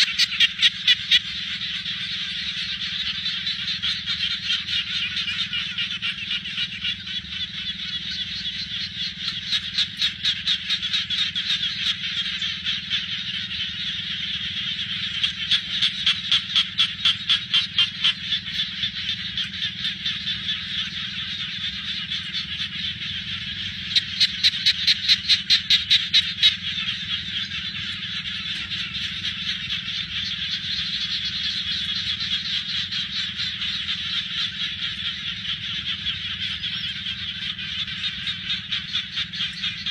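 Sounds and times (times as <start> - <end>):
frogs chorus trilling: 0.0 - 39.9.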